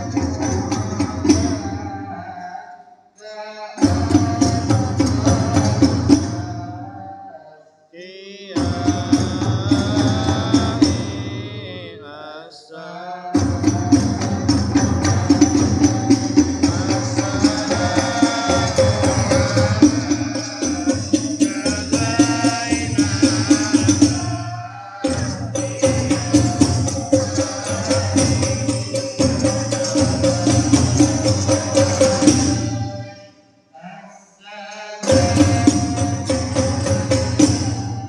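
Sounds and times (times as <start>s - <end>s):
frame drums beating: 0.0s - 2.1s, 3.8s - 6.9s, 8.6s - 11.8s, 13.4s - 33.2s, 35.0s - 38.0s
group singing devotional song: 0.0s - 38.0s.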